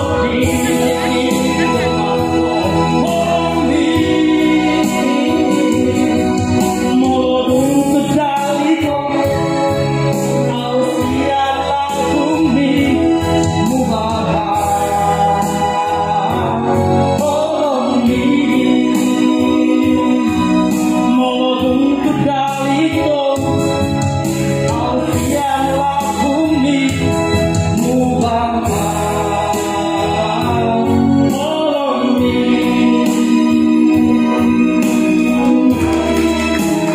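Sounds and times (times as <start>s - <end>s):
electronic keyboard music: 0.0s - 36.9s
man singing into microphone: 0.0s - 36.9s.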